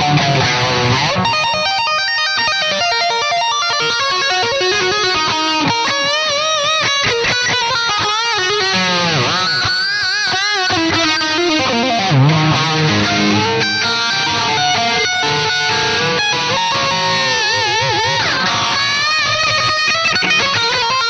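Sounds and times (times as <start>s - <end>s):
distorted electric guitar lead runs: 0.0s - 21.0s.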